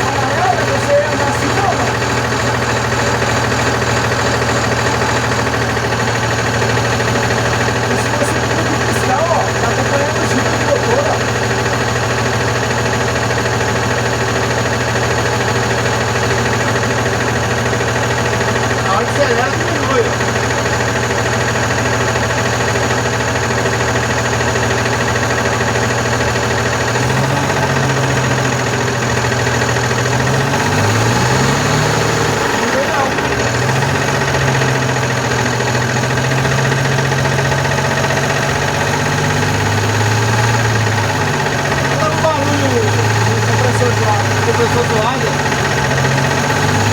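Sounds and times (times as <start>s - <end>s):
diesel truck engine idling: 0.0s - 46.9s
engine knocking: 0.0s - 46.9s.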